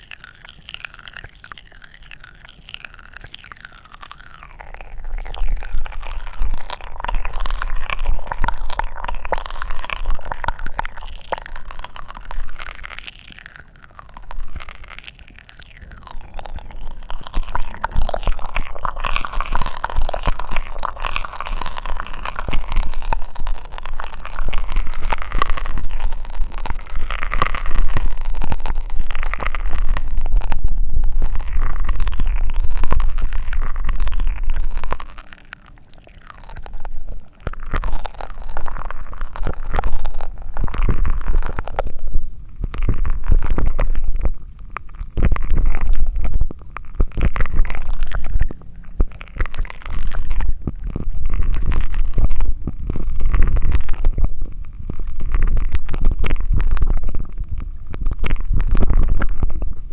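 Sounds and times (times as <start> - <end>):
mouth crackling and clicking: 0.0 - 59.9.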